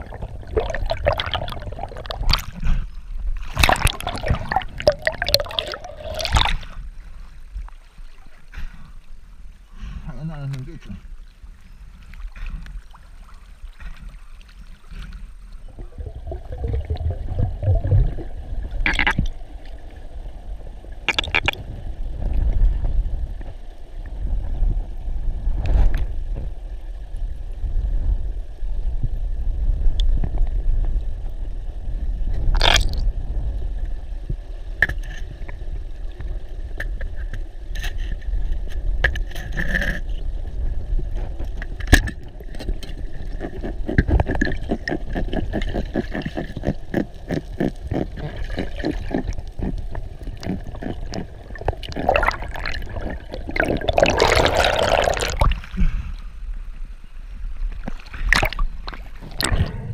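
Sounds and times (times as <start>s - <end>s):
underwater water rumble: 0.0s - 59.9s.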